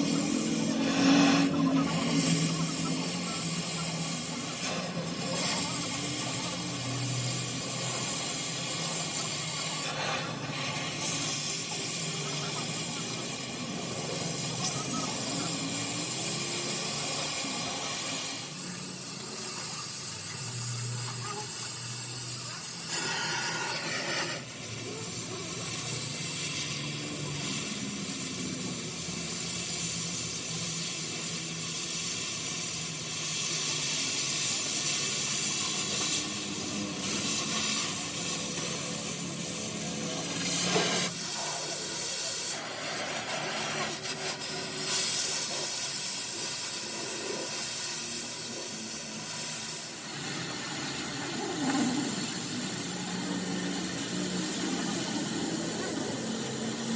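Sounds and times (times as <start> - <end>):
steady hissing noise: 0.0 - 56.9.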